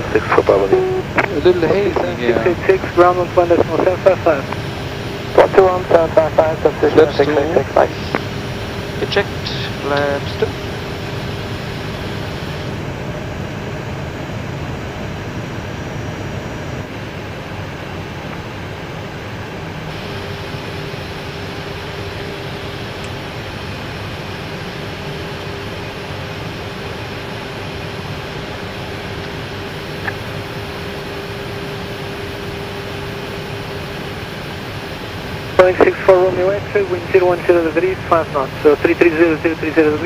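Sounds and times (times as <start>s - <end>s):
airflow and jet engines: 0.0s - 40.0s.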